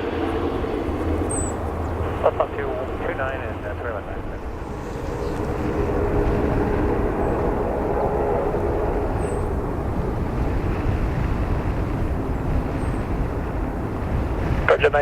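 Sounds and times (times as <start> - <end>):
humming tones: 0.0 - 14.7
jet engines running: 0.0 - 15.0.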